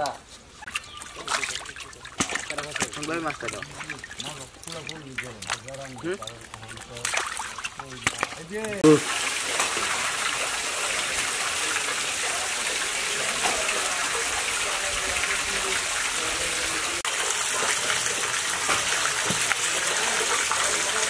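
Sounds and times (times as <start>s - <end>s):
water splashing into tank: 0.6s - 21.0s.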